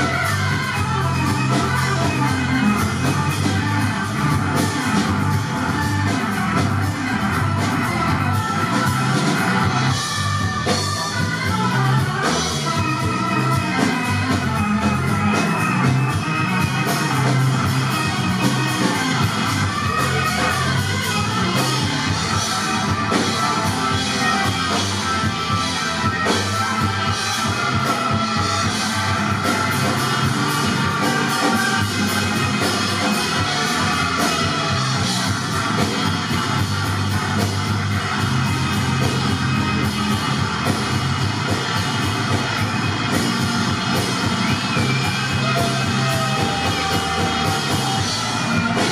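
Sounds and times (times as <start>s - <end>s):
drum kit cymbal beat: 0.0s - 48.9s
guitar: 0.0s - 48.9s
rock band playing live: 0.0s - 48.9s.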